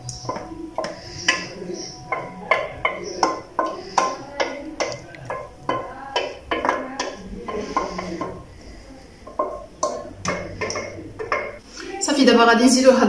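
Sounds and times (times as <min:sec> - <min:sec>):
hand-drum strokes: 0:00.0 - 0:11.6.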